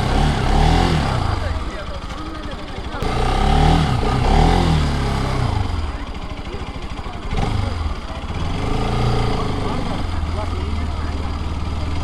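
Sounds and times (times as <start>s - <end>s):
motorcycle engine idling: 0.0s - 12.0s
motorcycle engine revving: 0.0s - 12.0s.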